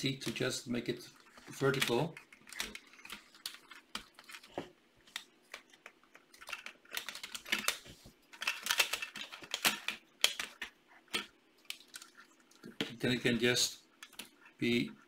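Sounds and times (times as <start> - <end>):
plastic parts clicking and rattling: 0.0 - 15.0.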